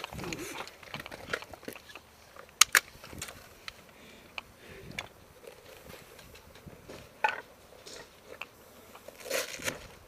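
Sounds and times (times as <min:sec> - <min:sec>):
kit clicks and rustles: 0:00.0 - 0:10.0.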